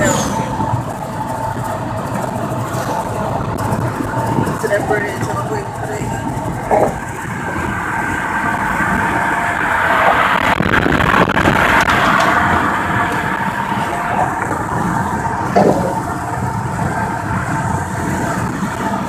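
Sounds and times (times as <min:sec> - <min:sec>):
wind and road noise in car: 0:00.0 - 0:19.0.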